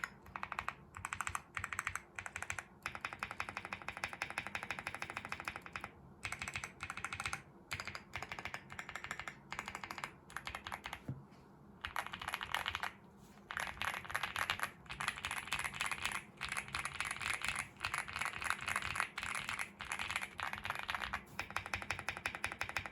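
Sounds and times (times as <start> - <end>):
fast typing on mechanical keyboard: 0.0 - 11.1, 11.8 - 22.9.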